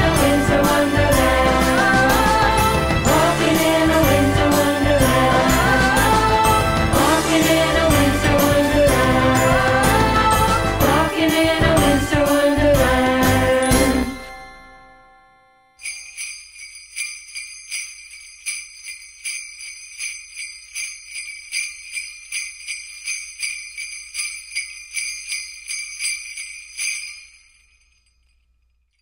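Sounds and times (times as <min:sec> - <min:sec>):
sleigh bells shaking: 0:00.0 - 0:14.8, 0:15.8 - 0:29.0.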